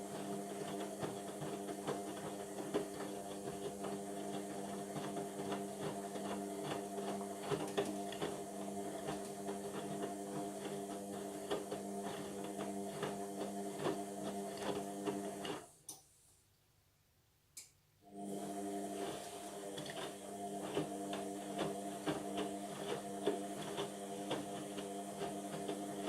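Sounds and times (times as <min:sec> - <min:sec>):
washing machine motor hum: 0:00.0 - 0:15.5, 0:18.1 - 0:26.0.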